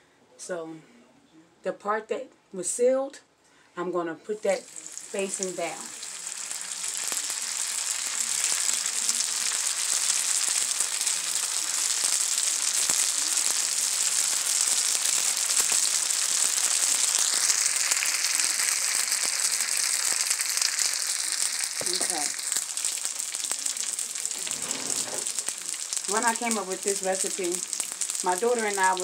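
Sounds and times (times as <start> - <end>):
food sizzling in hot oil: 4.4 - 29.0.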